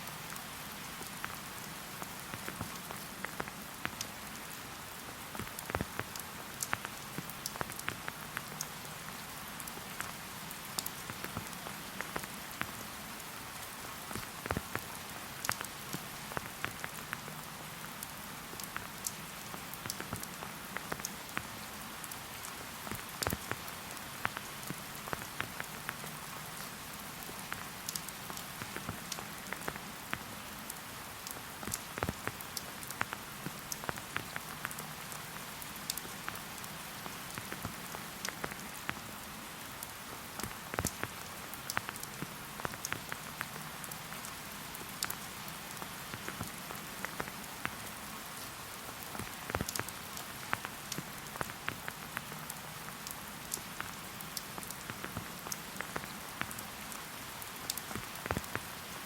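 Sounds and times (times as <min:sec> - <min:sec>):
light rain hiss: 0:00.0 - 0:59.0
raindrops ticking on surfaces: 0:00.0 - 0:59.0.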